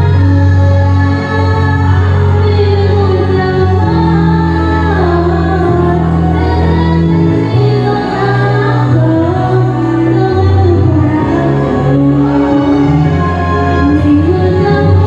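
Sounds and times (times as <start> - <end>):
long held bass notes: 0.0 - 15.0
woman singing: 0.0 - 15.0.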